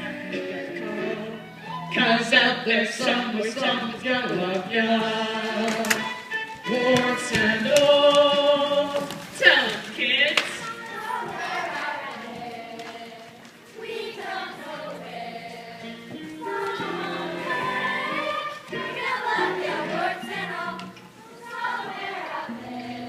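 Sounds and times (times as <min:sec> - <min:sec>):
children's chorus singing: 0:00.0 - 0:23.0
musical accompaniment: 0:00.0 - 0:23.0.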